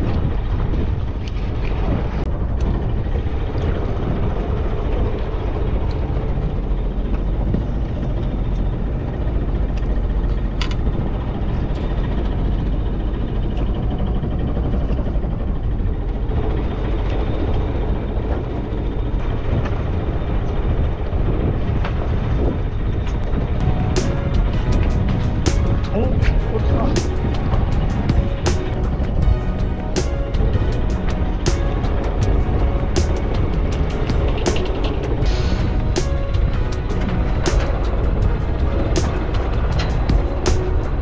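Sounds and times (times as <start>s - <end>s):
boat engine rumbling: 0.0s - 41.0s.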